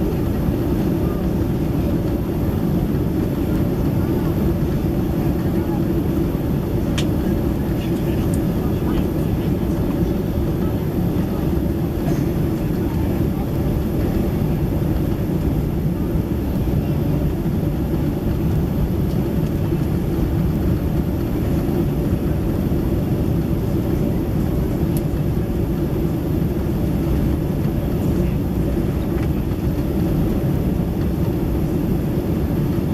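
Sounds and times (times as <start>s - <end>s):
airliner cabin engine roar: 0.0s - 32.9s.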